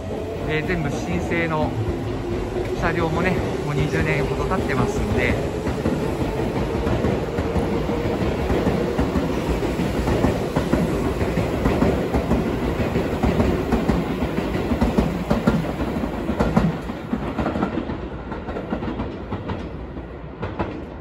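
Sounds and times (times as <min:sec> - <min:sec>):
electric train wheels rumbling: 0:00.0 - 0:21.0.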